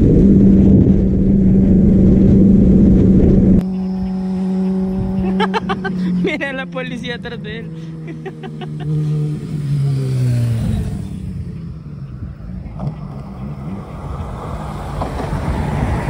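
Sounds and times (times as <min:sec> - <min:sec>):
motorcycle passing by: 0:00.0 - 0:16.0.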